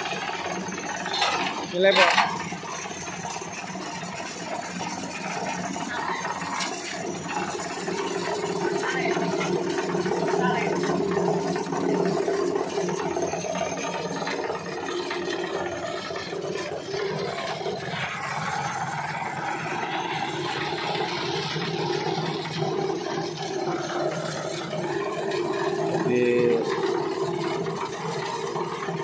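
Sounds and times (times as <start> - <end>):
grinder motor hum: 0.0 - 29.0
grinding rasp: 0.0 - 29.0.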